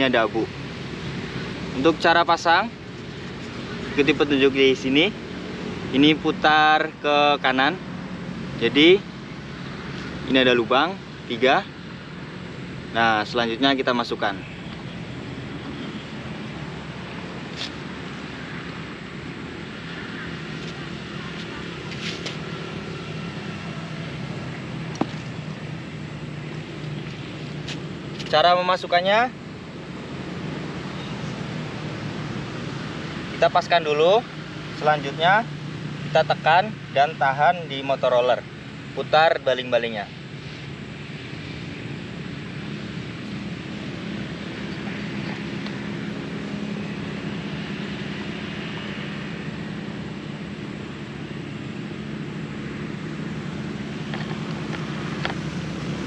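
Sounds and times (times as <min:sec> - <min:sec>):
engine hum: 0:00.0 - 0:56.0.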